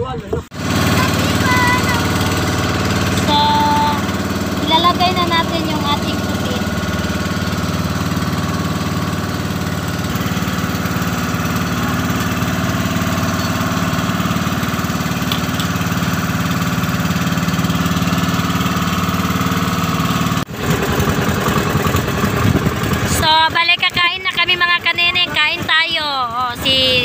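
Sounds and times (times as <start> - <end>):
boat engine running: 0.2 - 27.0
rough uneven engine sound: 0.5 - 27.0.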